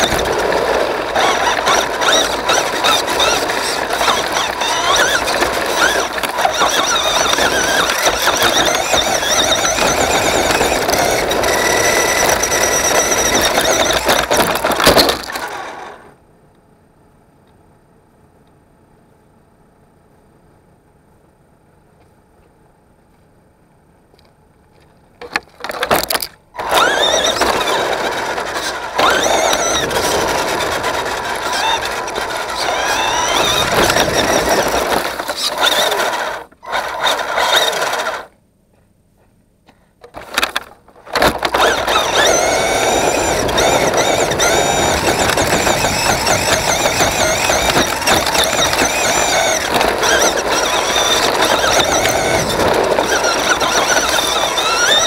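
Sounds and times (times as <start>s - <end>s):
electric motor and gearbox whining: 0.0s - 16.2s, 24.2s - 38.4s, 40.0s - 55.0s.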